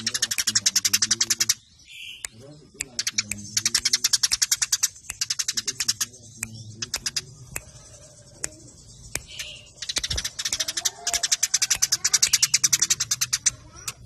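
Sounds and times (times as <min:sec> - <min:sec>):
sparrows chattering: 0:00.0 - 0:14.0.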